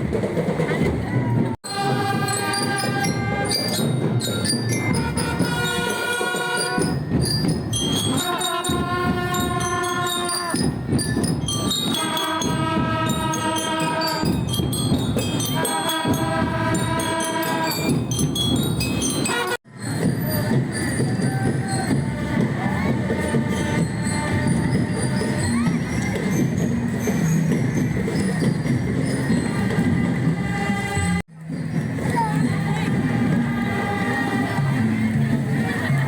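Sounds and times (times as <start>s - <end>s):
jingling bell-like percussion: 1.6s - 36.0s.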